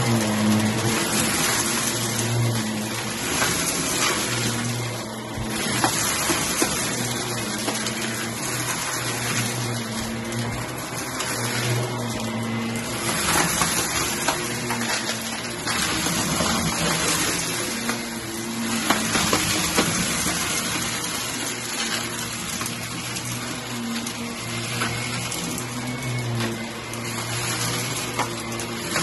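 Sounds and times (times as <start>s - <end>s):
debris clicks in vacuum: 0.0s - 29.0s
vacuum cleaner running on carpet: 0.0s - 29.0s.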